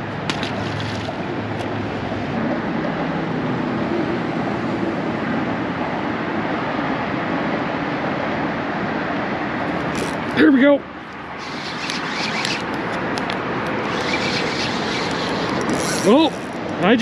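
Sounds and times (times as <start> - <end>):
traffic rushing over bridge: 0.0 - 17.0.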